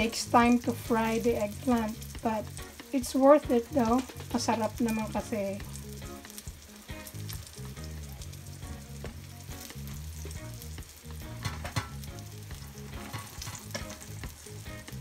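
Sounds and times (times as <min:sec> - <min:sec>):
eggplant sizzling in oil: 0:00.0 - 0:15.0.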